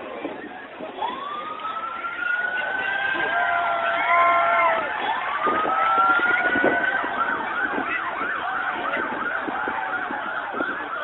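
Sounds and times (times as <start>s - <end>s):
police siren wailing and yelping: 1.0s - 11.0s.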